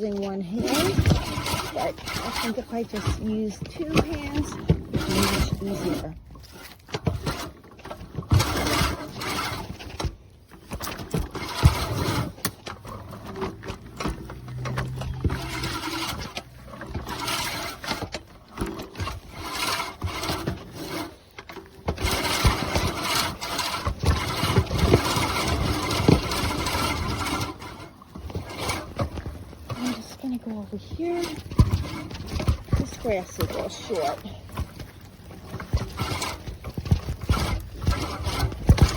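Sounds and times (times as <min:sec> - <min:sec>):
reel mower whirring and clicking: 0:00.0 - 0:38.9.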